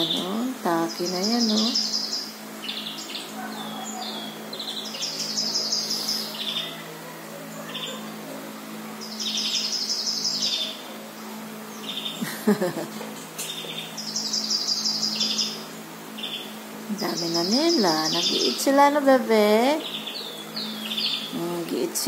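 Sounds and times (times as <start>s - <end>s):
songbirds singing through speaker: 0.0s - 22.0s
steady low hum: 0.0s - 22.0s.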